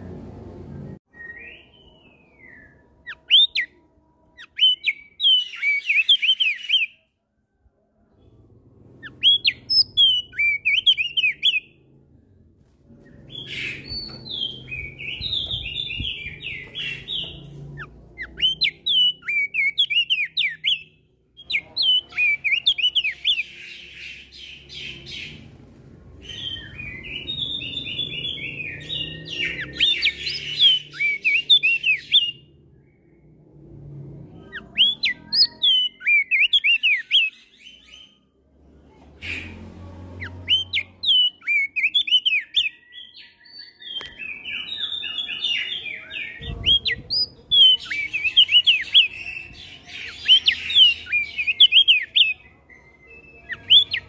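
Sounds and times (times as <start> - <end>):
bird chirping song: 0.0 - 7.3, 7.9 - 38.5, 39.2 - 54.0.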